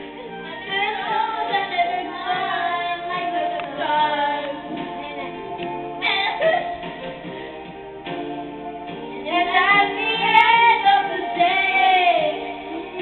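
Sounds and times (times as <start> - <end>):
backing track music: 0.0 - 13.0
girls singing karaoke: 0.0 - 13.0.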